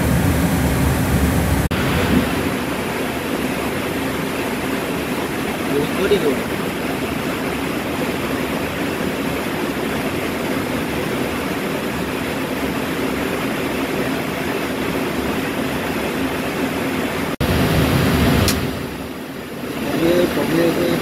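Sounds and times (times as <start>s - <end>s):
jet engines roaring overhead: 0.0s - 21.0s.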